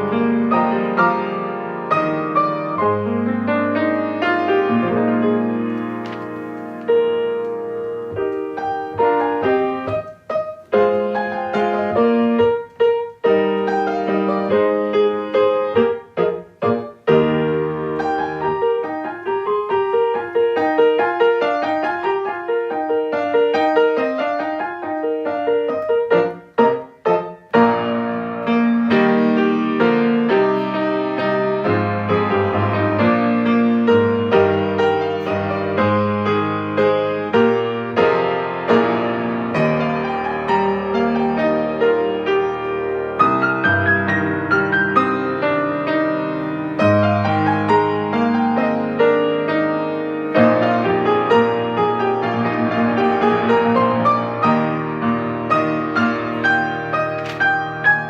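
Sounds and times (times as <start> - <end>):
solo piano prelude: 0.0 - 58.0.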